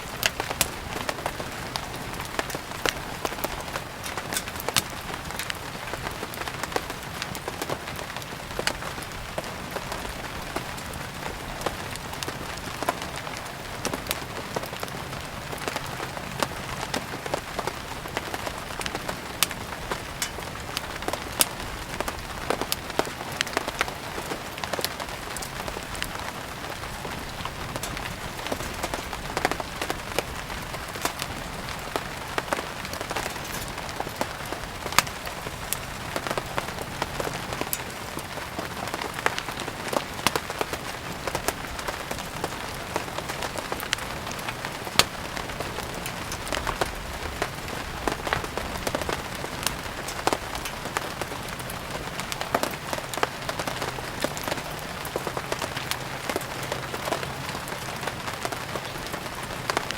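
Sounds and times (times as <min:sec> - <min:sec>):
steady rain: 0:00.0 - 0:59.9
wood fire crackling: 0:00.0 - 0:59.9.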